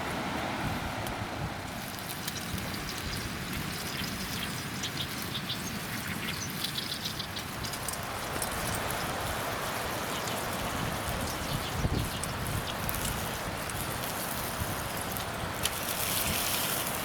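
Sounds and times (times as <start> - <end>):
campfire crackling and popping: 1.6 - 17.0.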